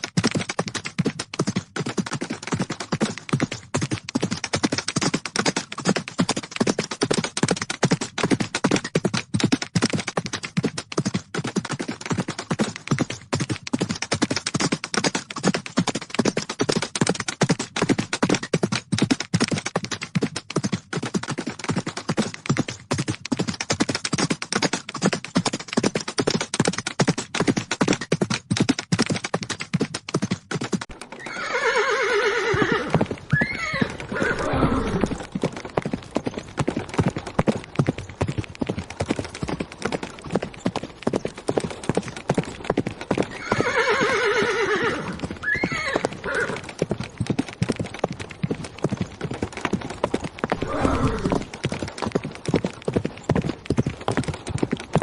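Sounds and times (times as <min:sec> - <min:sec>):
horses galloping: 0:00.0 - 0:55.0.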